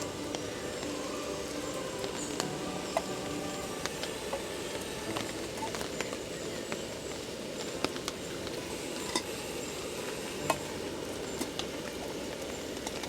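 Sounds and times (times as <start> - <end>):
camp stove flame rushing: 0.0 - 13.0
food sizzling in a pan: 0.0 - 13.0
sharp crackling pops: 0.0 - 13.0.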